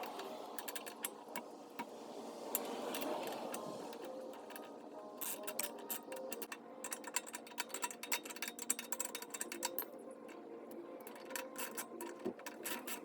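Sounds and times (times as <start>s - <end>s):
faint background music: 0.0s - 13.0s
hand tools and metal parts clattering: 0.0s - 13.0s.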